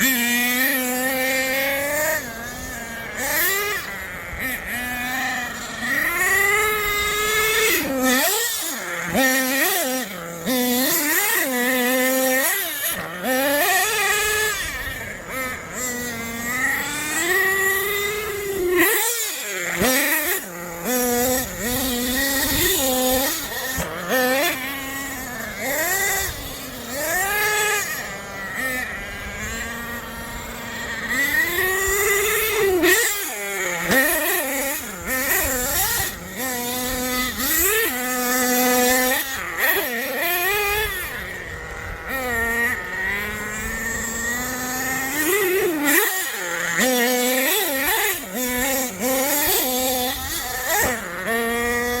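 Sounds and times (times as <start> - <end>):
small nitro engine revving: 0.0 - 52.0.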